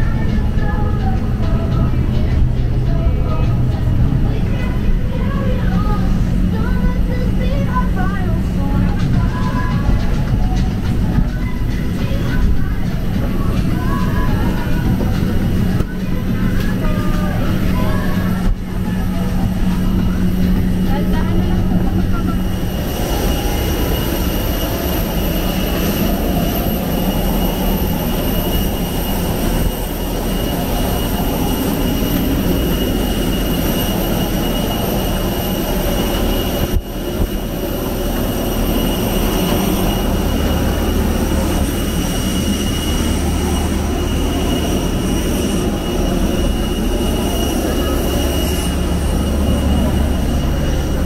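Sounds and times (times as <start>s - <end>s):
jet engine and airflow drone: 0.0s - 51.0s
thin high whines: 0.0s - 51.0s.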